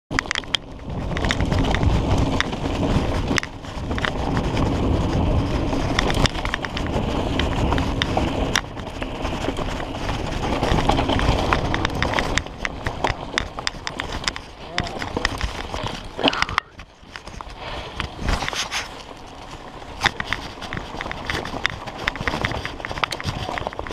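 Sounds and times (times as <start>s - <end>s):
bike clicks and knocks: 0.1s - 23.9s
wind buffeting microphone: 0.5s - 23.9s.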